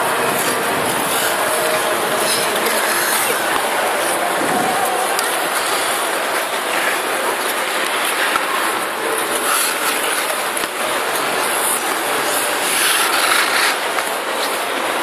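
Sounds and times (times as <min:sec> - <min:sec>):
ice skate blades scraping ice: 0:00.0 - 0:15.0.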